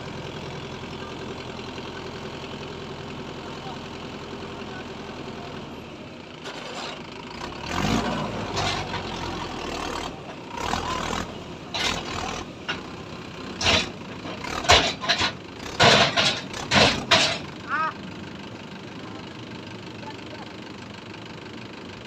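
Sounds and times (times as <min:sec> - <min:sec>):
tractor diesel engine revving: 0:00.0 - 0:22.0.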